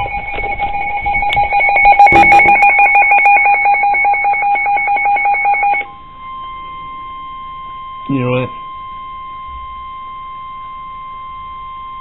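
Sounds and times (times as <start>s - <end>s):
rapid two-tone alarm beeping: 0.0s - 12.0s.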